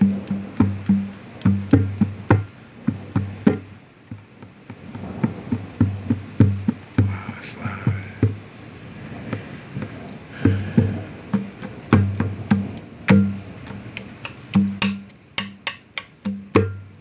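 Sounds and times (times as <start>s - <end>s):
conga drum played by hand: 0.0s - 8.5s, 9.3s - 17.0s.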